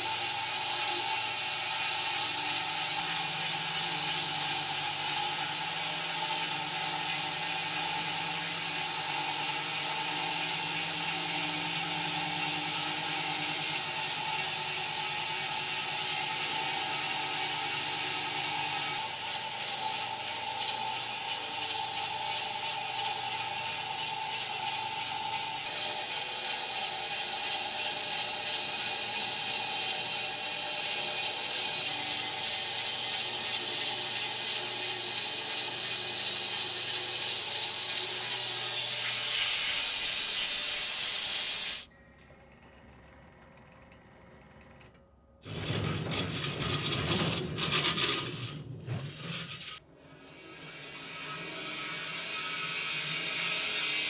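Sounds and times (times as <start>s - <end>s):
saw blade hissing through wood: 0.0s - 41.9s, 50.2s - 54.0s
mill motor hum: 0.0s - 54.0s.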